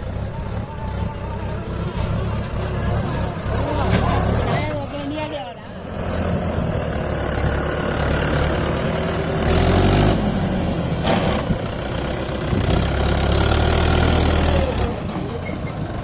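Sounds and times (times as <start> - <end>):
tractor diesel engine revving: 0.0 - 16.0.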